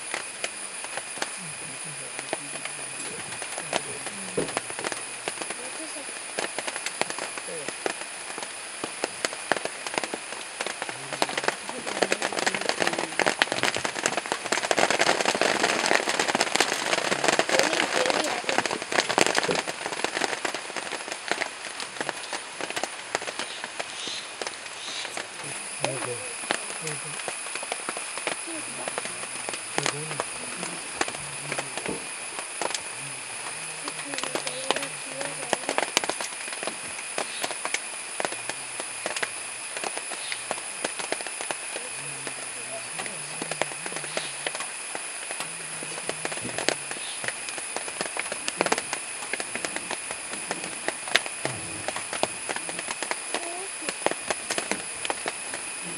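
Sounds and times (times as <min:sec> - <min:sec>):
high background drone: 0:00.0 - 0:55.9
elephants tearing and chewing grass: 0:00.1 - 0:55.9.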